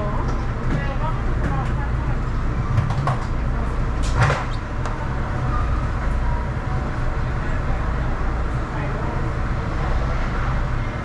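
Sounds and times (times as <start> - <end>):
people-mover car humming: 0.0 - 11.0.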